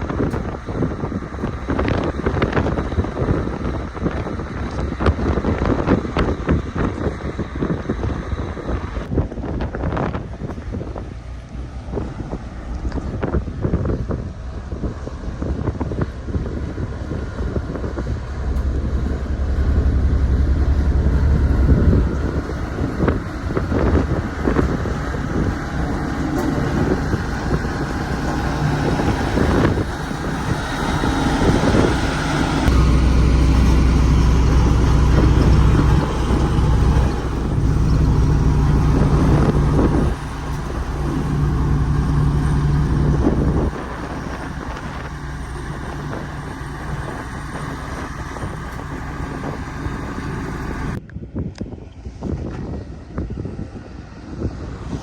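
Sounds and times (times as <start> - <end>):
road roller diesel engine running: 0.0 - 9.4, 10.1 - 51.0.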